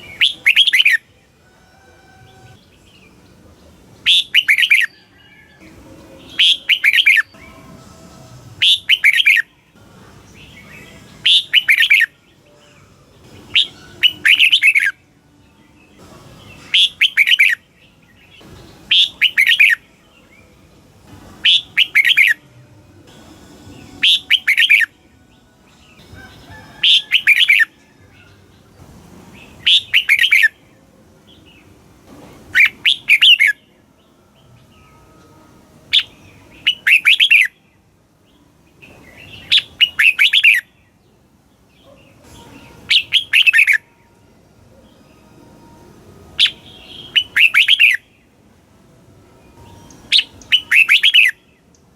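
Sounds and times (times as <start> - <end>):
bulbul singing: 0.0 - 48.6, 49.2 - 51.9.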